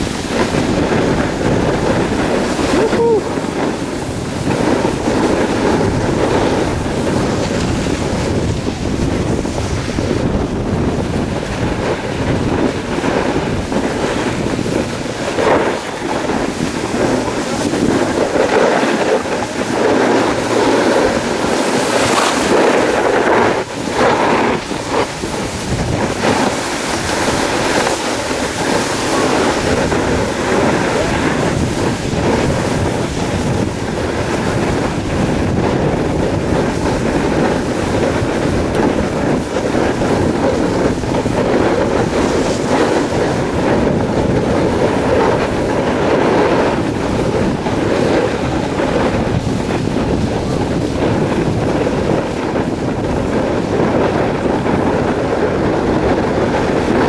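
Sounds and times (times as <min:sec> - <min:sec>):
snowboard scraping over packed snow: 0:00.0 - 0:57.0
wind buffeting microphone: 0:00.0 - 0:57.0.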